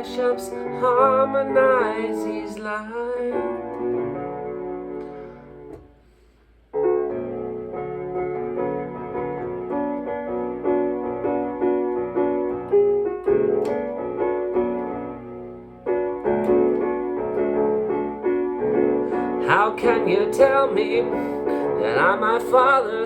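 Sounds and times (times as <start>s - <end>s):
piano playing repeated chords: 0.0s - 23.0s.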